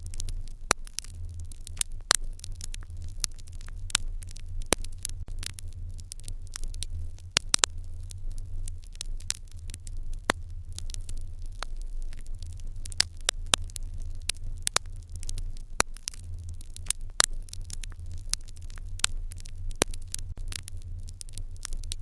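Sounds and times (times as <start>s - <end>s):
fire crackling and popping: 0.0s - 22.0s
low steady hum: 0.0s - 22.0s.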